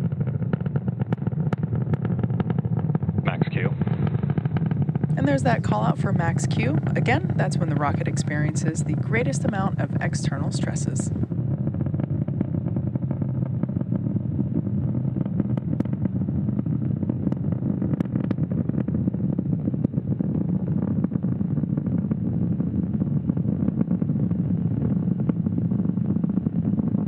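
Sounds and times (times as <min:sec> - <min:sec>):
rocket engines roaring: 0:00.0 - 0:27.0.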